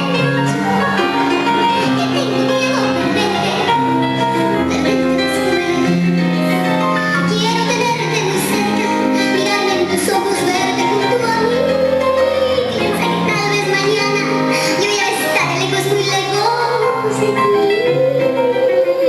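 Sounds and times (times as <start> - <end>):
sustained instrumental chords: 0.0 - 19.0.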